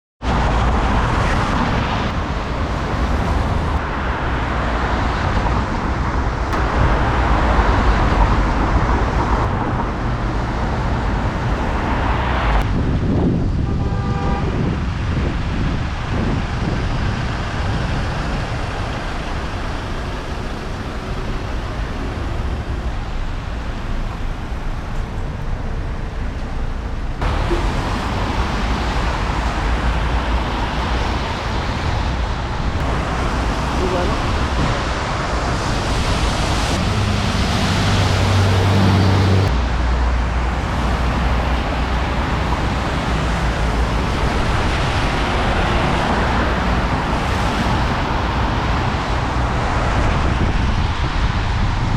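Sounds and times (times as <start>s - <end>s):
city street traffic: 0.2s - 51.9s.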